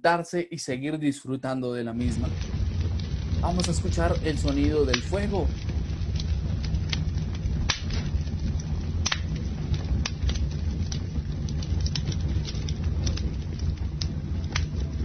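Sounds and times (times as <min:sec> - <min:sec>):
low rumble of flames: 0:01.9 - 0:15.0
campfire pops and snaps: 0:02.0 - 0:15.0.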